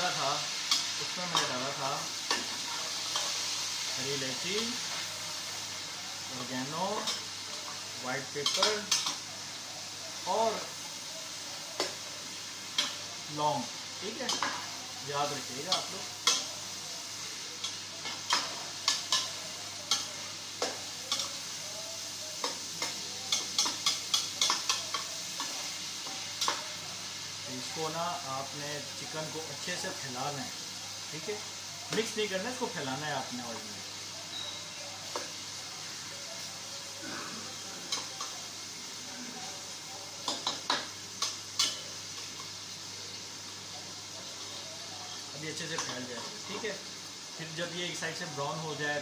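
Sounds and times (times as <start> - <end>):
chicken sizzling in oil: 0.0 - 49.0
frying hiss: 0.0 - 49.0.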